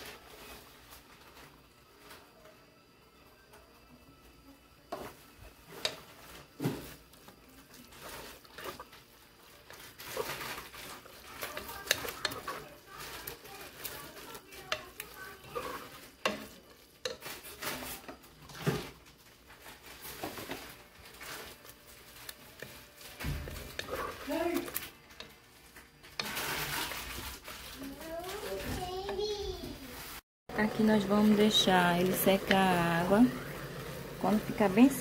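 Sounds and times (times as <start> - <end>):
sizzling simmer: 0.0 - 35.0
wooden spoon scraping metal pot: 4.9 - 29.2, 30.5 - 35.0.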